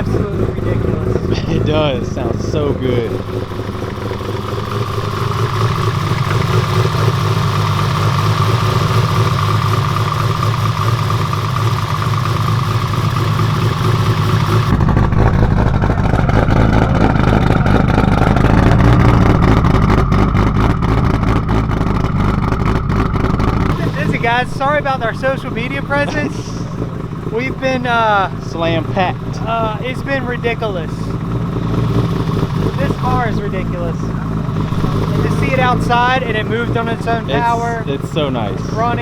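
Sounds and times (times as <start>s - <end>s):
turbo engine choppy idle: 0.0s - 39.0s.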